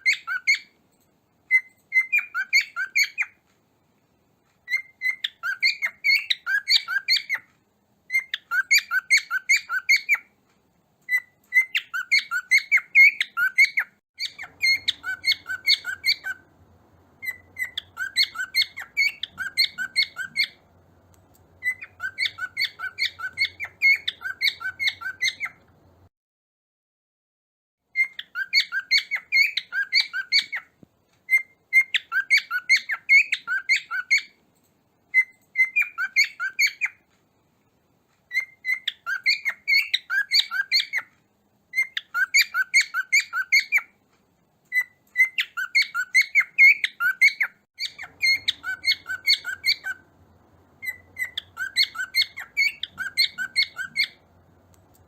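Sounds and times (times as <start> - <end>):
cockatiel chirping: 0.0 - 0.8, 1.5 - 3.4, 4.6 - 10.4, 11.0 - 16.6, 17.2 - 25.8, 27.9 - 34.4, 35.1 - 37.1, 38.3 - 41.1, 41.7 - 44.0, 44.7 - 55.0.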